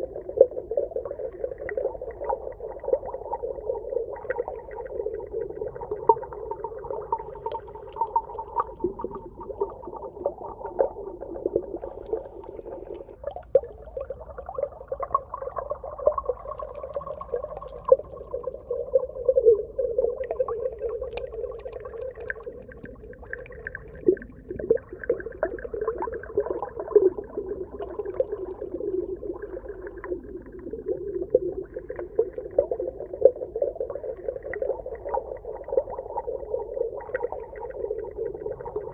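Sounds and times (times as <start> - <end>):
underwater crackling and popping: 0.0 - 38.9.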